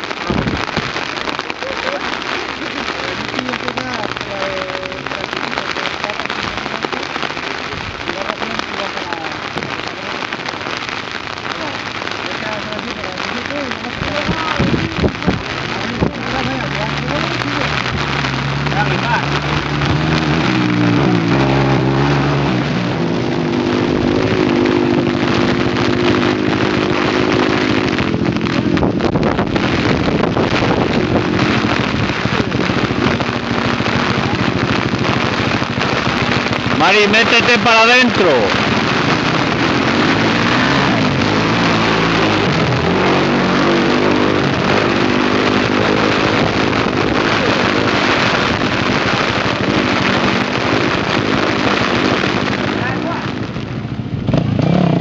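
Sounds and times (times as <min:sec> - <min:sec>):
heavy rain hiss: 0:00.0 - 0:55.0
rally car engines running: 0:00.0 - 0:55.0.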